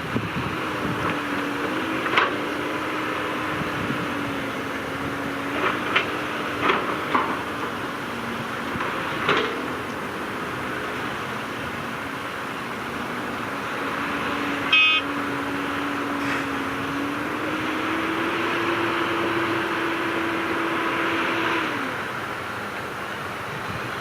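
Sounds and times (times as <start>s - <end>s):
heavy diesel engine under load: 0.0s - 24.0s.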